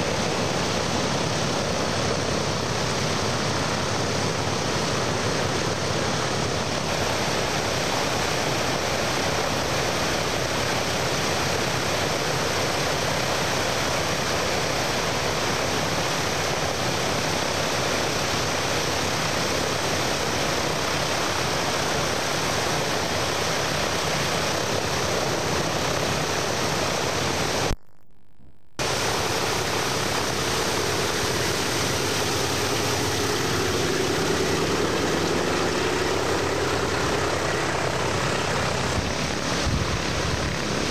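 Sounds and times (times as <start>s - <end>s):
piston aircraft engines droning: 0.0s - 27.8s, 28.8s - 40.9s
steady rushing noise: 0.0s - 40.9s.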